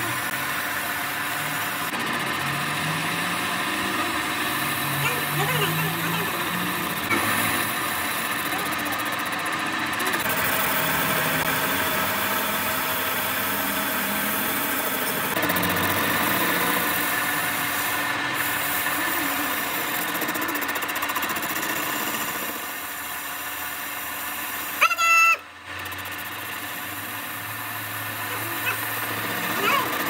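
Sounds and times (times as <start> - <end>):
lathe cutting metal: 0.0 - 24.8, 25.6 - 30.0.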